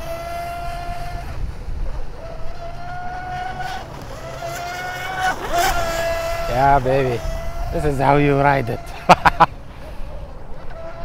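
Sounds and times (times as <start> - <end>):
boat motor high whine: 0.0 - 11.0
wind rumble on microphone: 0.0 - 11.0.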